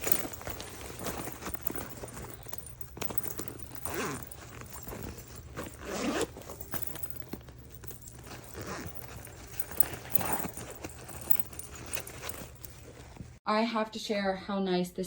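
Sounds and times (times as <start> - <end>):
backpack zipper rasping: 0.0 - 13.2.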